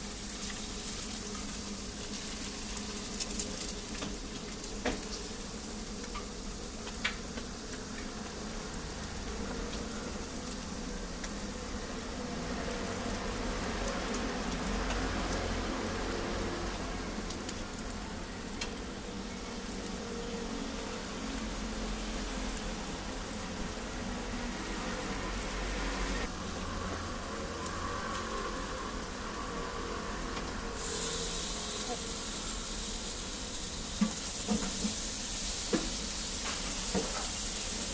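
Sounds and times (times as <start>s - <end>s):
egg batter sizzling on griddle: 0.0s - 37.9s.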